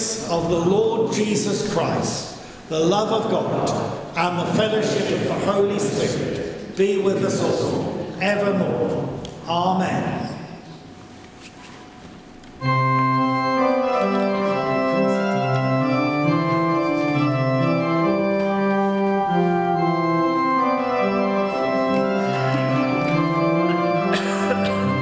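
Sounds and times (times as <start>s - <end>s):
church organ chords: 0.0s - 10.6s, 12.6s - 25.0s.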